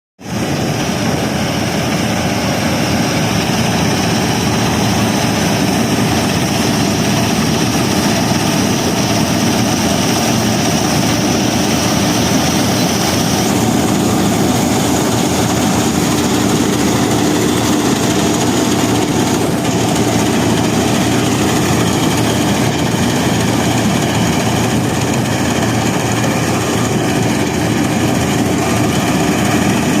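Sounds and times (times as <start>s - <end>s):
combine harvester drone: 0.2s - 30.0s.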